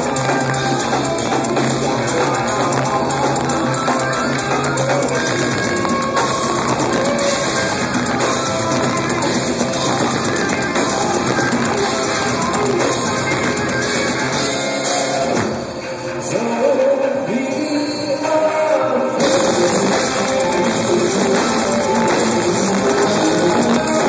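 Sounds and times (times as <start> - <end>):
live death metal band playing: 0.0 - 17.6, 18.2 - 24.0.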